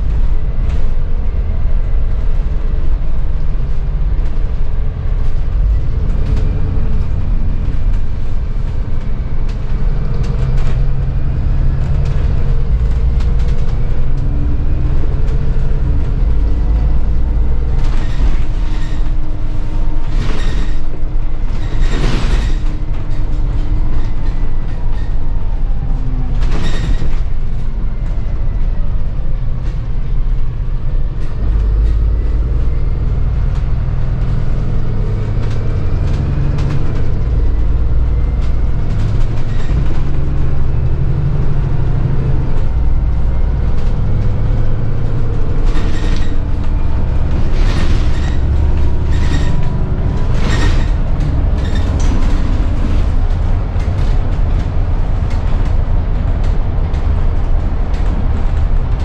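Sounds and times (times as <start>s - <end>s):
bus cabin low rumble: 0.0s - 59.0s.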